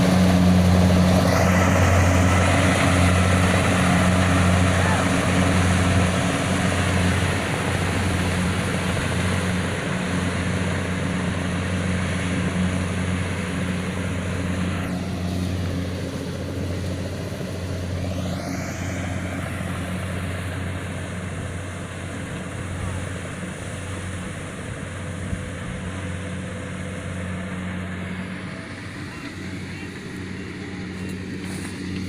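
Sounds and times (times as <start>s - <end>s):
combine harvester engine drone: 0.0s - 32.0s.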